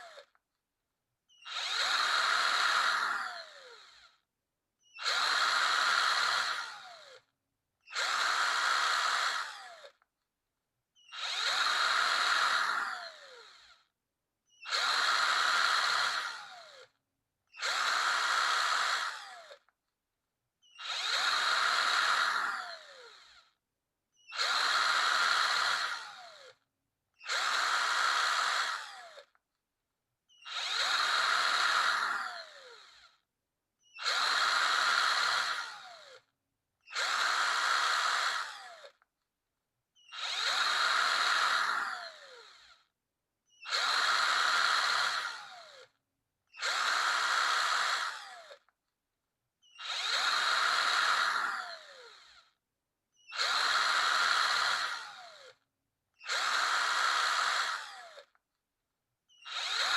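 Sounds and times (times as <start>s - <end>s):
electric power drill whining: 0.0s - 0.4s, 1.3s - 4.2s, 4.8s - 7.3s, 7.9s - 10.0s, 11.0s - 13.9s, 14.5s - 19.7s, 20.6s - 23.6s, 24.2s - 26.6s, 27.2s - 29.4s, 30.3s - 33.2s, 33.8s - 39.0s, 40.0s - 42.9s, 43.5s - 48.7s, 49.6s - 52.6s, 53.2s - 55.6s, 56.2s - 58.4s, 59.3s - 59.9s.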